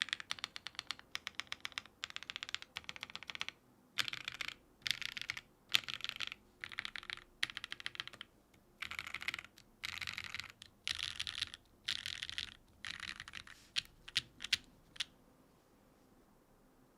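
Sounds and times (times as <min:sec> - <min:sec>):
typing on mechanical keyboard: 0:00.0 - 0:15.1.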